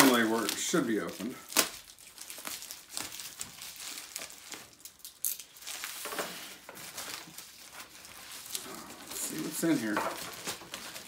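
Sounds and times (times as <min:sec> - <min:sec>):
plastic and paper packaging crinkling: 0:00.0 - 0:11.0.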